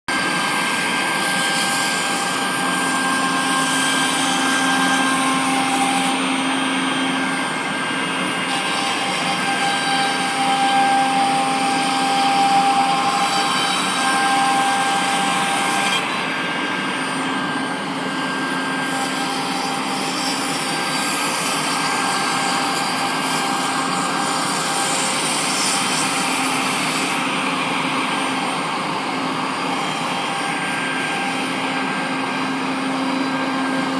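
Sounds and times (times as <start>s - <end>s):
cnc router cutting wood: 0.1s - 33.9s.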